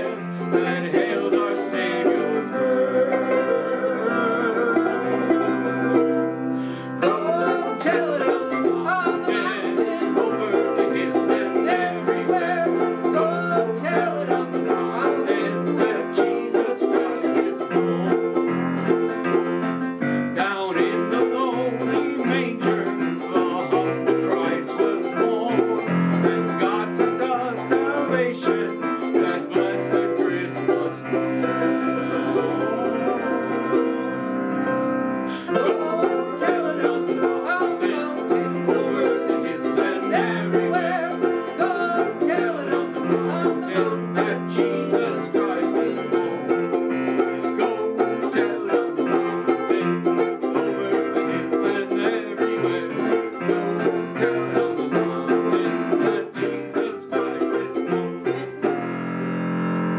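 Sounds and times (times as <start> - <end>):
digital piano: 0.0 - 59.9
strummed ukulele: 0.0 - 59.9.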